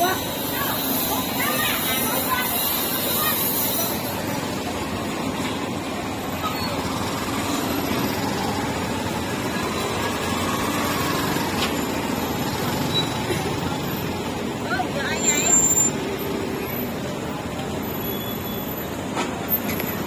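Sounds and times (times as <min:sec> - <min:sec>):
street noise: 0:00.0 - 0:20.0.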